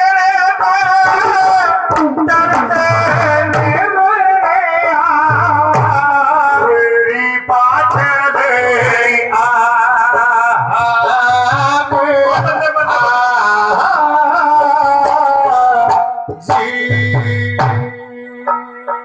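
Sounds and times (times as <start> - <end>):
drum strokes: 0.8 - 19.0
instrumental accompaniment with low beat: 1.2 - 19.0.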